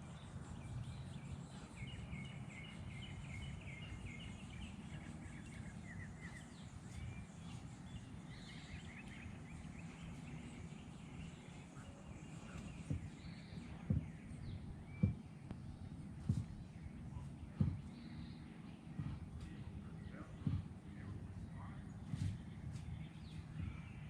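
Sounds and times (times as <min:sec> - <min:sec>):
low rumbling background noise: 0:00.0 - 0:24.0
songbirds trilling: 0:00.0 - 0:24.0.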